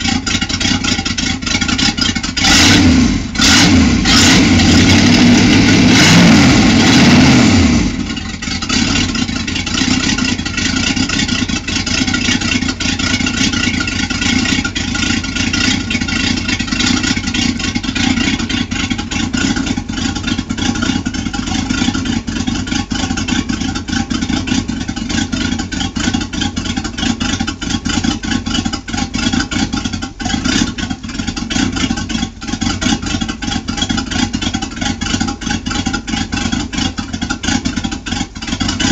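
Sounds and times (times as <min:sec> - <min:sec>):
boat engine revving and idling: 0:00.0 - 0:38.9.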